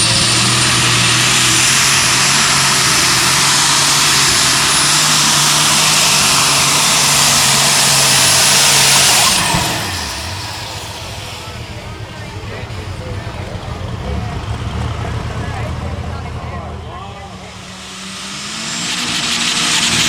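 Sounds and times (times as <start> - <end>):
diesel engine running under load: 0.0 - 20.0
high turbocharger whistle: 0.0 - 20.0.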